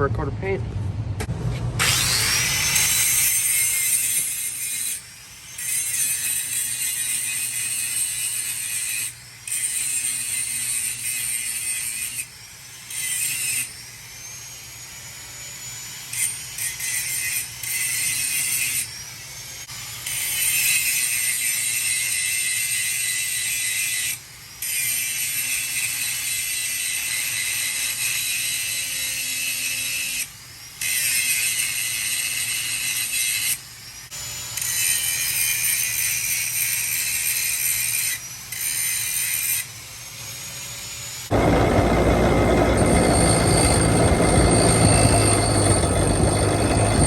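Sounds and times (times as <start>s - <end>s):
power grinder grinding metal: 1.8s - 15.0s, 15.6s - 39.8s, 40.5s - 47.0s.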